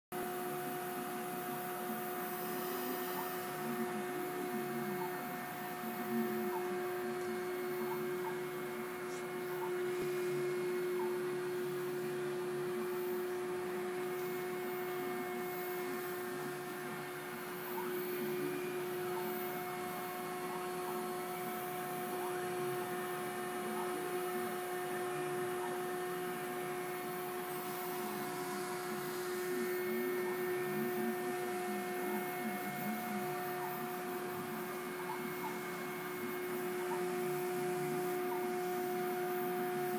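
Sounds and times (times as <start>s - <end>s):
milling spindle high whine: 0.2s - 39.9s.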